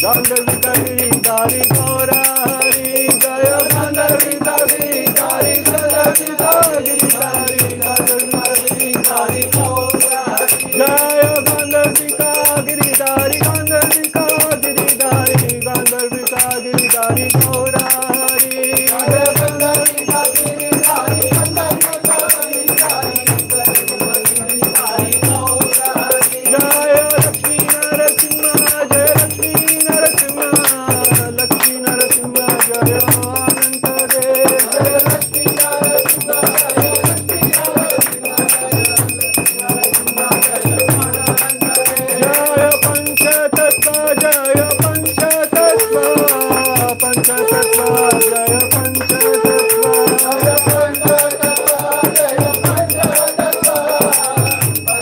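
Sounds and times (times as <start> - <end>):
hand bell ringing: 0.0 - 55.0
rapid rattling percussion: 0.0 - 55.0
wavering devotional melody: 0.0 - 55.0.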